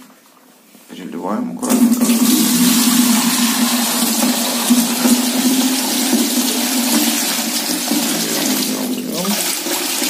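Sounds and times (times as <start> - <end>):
water pouring through colander: 1.6 - 10.0.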